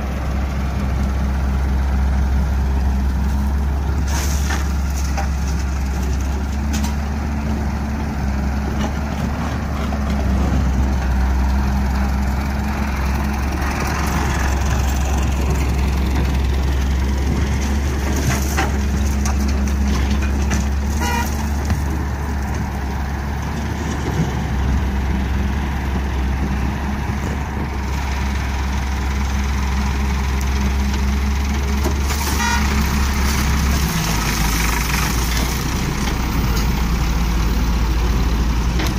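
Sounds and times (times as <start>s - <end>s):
diesel engines droning: 0.0s - 38.9s
excavator digging soil: 2.8s - 38.9s.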